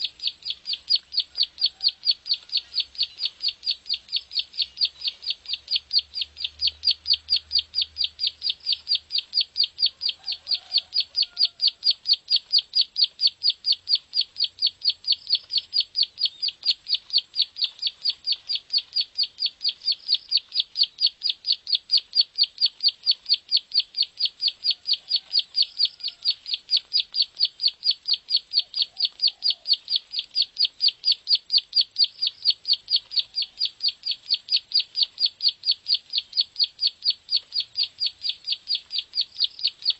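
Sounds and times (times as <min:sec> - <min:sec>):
small bird rapid chirping: 0:00.0 - 0:39.9.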